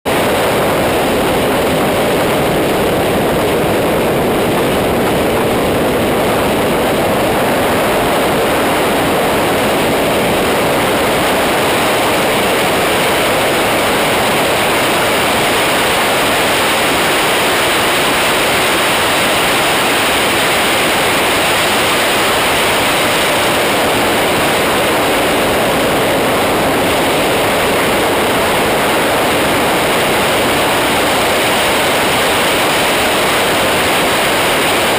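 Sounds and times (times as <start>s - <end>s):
wind roar on microphone: 0.1s - 34.9s.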